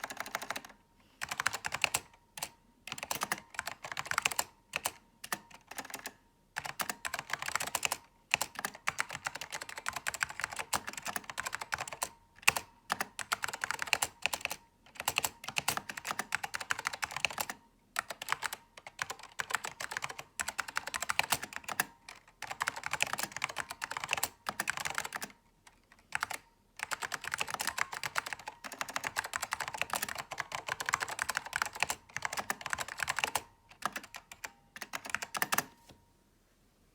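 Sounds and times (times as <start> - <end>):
clicky keyboard typing: 0.0 - 36.0.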